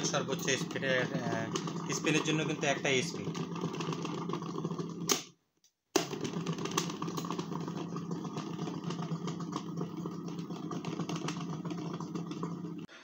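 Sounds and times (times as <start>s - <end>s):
washing machine motor hum: 0.0s - 5.1s, 6.0s - 13.0s.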